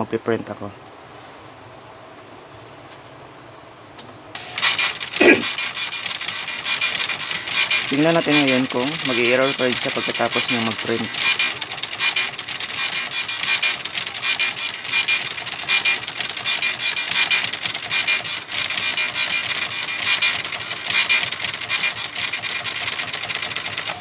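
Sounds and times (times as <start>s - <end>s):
dot-matrix printer buzzing: 4.4s - 24.0s.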